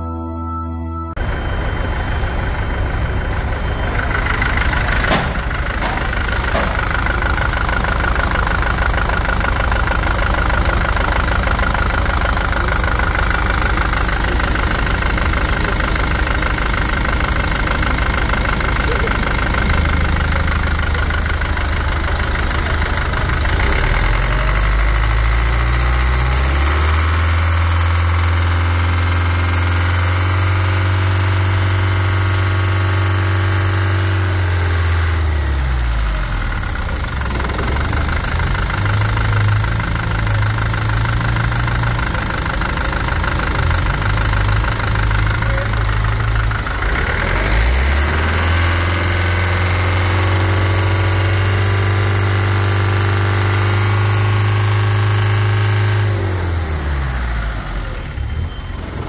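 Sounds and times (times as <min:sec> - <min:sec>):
diesel engine idling and revving: 0:01.1 - 0:59.0.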